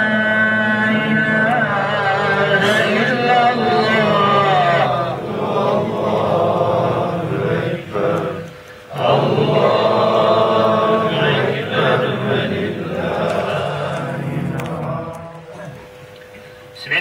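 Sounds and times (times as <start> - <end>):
man chanting recitation: 0.0 - 15.9.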